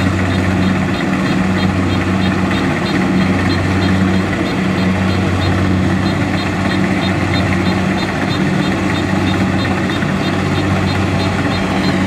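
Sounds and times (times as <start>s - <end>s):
diesel engine humming: 0.0s - 12.0s
faint high ticking: 0.0s - 12.0s.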